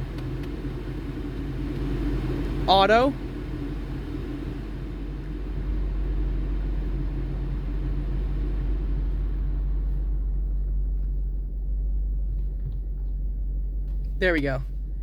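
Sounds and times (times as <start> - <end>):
low rumble in car cabin: 0.0 - 15.0.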